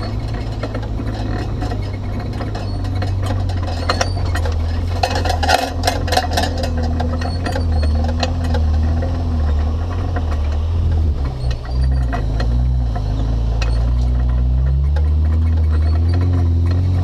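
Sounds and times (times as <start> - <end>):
rattles and knocks: 0.0 - 17.0
vehicle engine and road rumble: 0.0 - 17.0.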